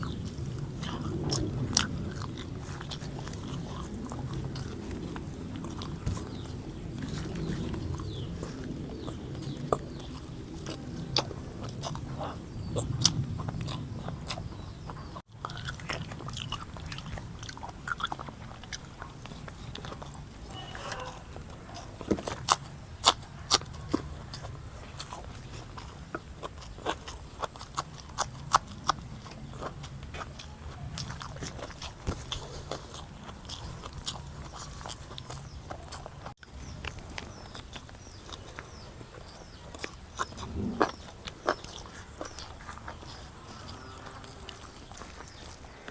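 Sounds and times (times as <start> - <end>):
person chewing and biting: 0.0 - 45.9.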